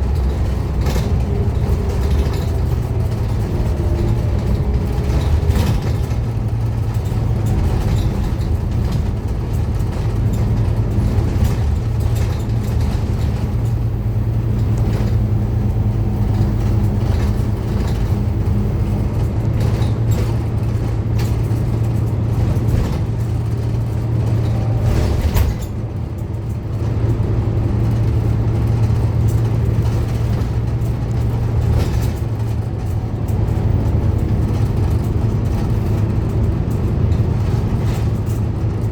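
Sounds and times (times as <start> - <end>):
bus body rattling: 0.0 - 38.9
bus diesel engine running: 0.0 - 38.9.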